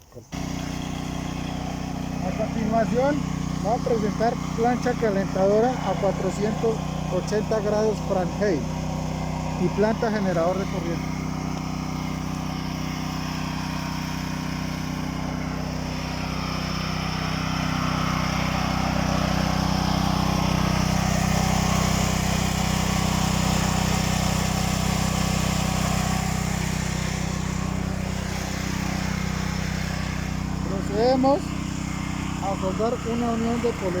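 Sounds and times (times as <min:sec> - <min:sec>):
generator engine humming: 0:00.0 - 0:34.0.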